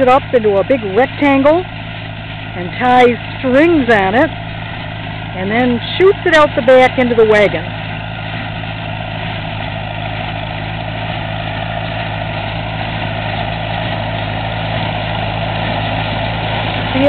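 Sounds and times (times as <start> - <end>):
hay baler machinery noise: 0.0 - 17.0
tractor engine droning: 0.0 - 17.0.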